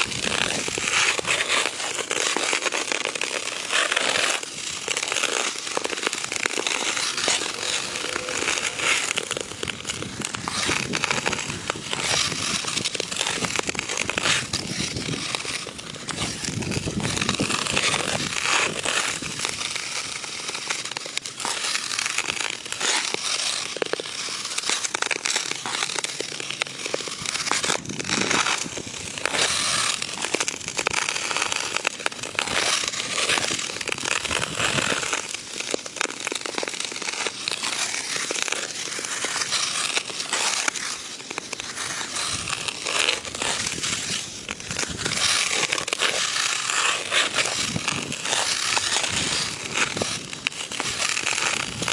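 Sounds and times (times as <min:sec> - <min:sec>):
skate blades scraping on ice: 0:00.0 - 0:51.9.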